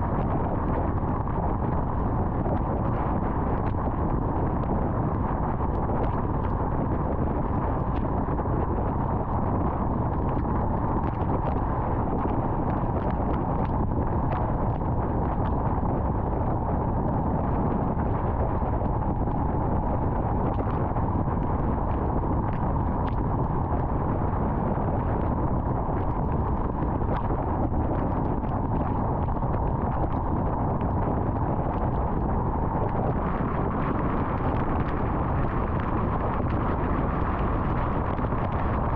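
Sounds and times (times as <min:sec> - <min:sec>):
car road and wind noise: 0:00.0 - 0:38.9.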